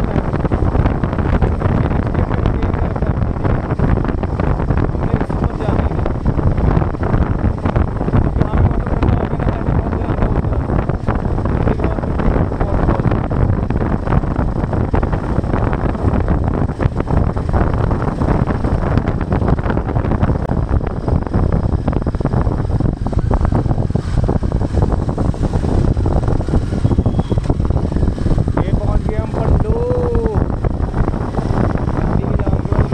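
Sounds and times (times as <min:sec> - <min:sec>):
motorcycle engine running: 0:00.0 - 0:32.9
wind buffeting microphone: 0:00.0 - 0:32.9.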